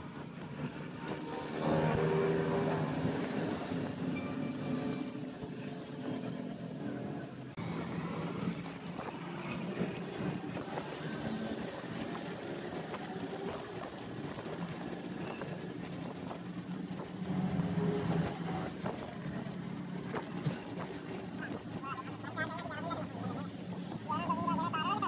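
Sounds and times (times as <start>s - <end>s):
engine hum: 0.0s - 25.0s.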